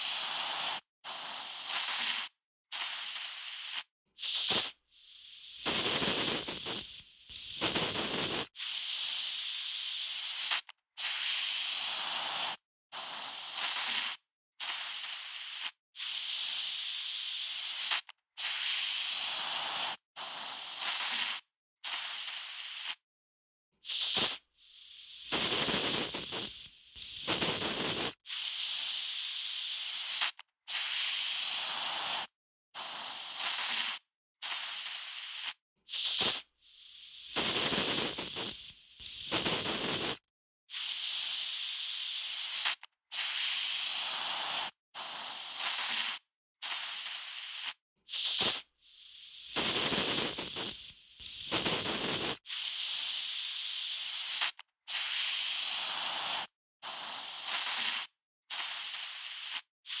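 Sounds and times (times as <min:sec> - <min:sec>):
aerosol spray can hissing: 0:00.0 - 0:23.0, 0:23.8 - 1:00.0.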